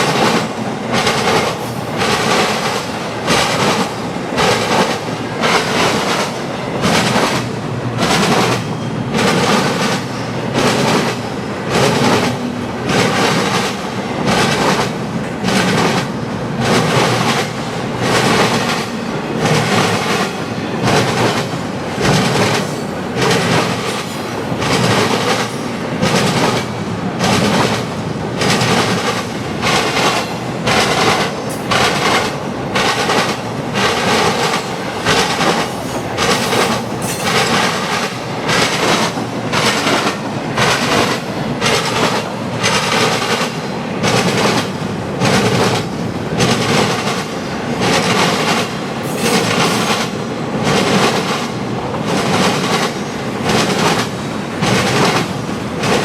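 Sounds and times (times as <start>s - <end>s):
train rolling rumble: 0.0s - 56.0s
wheels clacking over rail joints: 0.0s - 56.0s.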